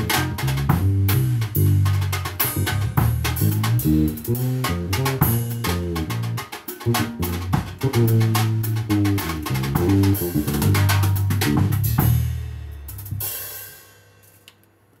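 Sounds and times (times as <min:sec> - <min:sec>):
fretless bass guitar: 0:00.0 - 0:13.3
drum kit: 0:00.0 - 0:14.4.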